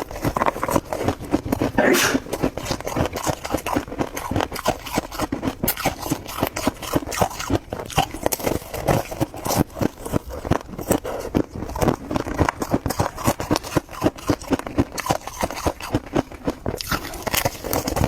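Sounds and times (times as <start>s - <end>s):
frost being chewed: 0.0s - 18.0s.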